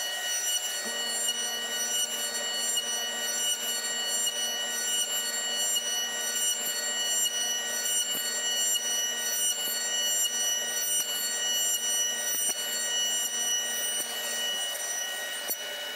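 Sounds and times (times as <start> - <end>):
milling machine cutting wood: 0.0 - 15.9.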